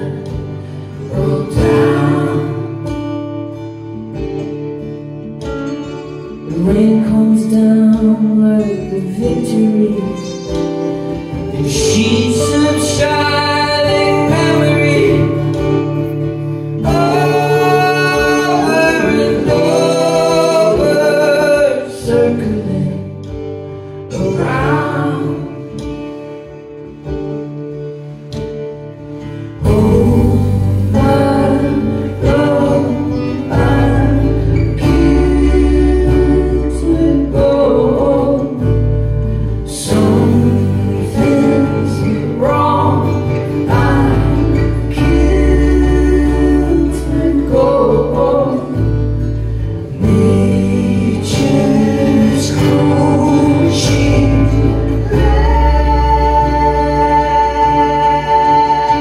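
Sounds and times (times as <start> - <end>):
person singing: 0.0 - 28.2, 29.0 - 59.0
live band playing: 0.0 - 59.0.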